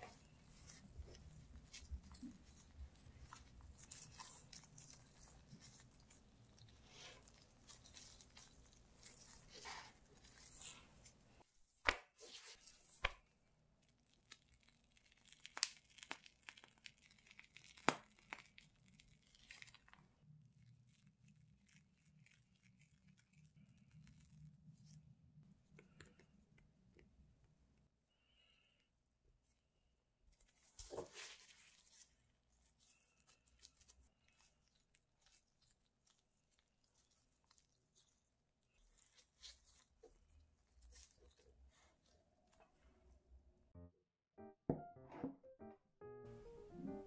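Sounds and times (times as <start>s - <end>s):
soft rustling and squishing: 0.0s - 43.2s.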